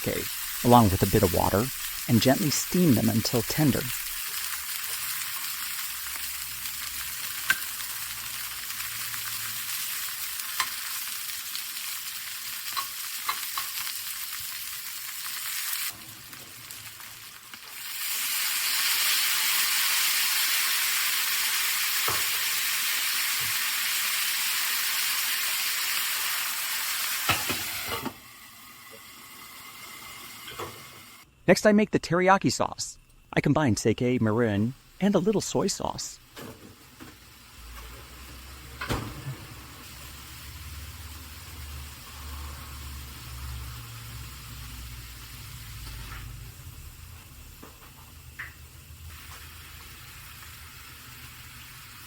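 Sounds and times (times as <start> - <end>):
onions sizzling in a frying pan: 0.0 - 31.2, 36.2 - 52.0.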